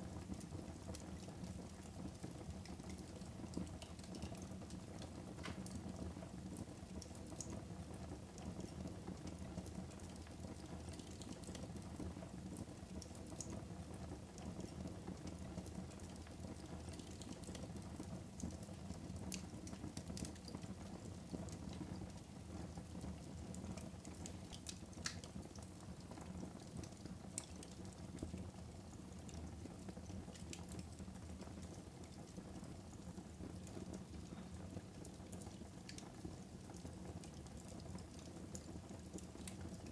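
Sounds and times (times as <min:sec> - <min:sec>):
fire crackling: 0:00.0 - 0:39.9
low rumble of flames: 0:00.0 - 0:39.9.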